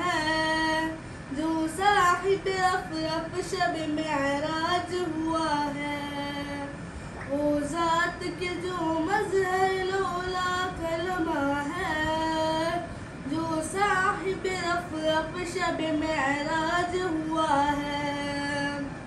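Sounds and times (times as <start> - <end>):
boy singing unaccompanied: 0.0 - 18.9.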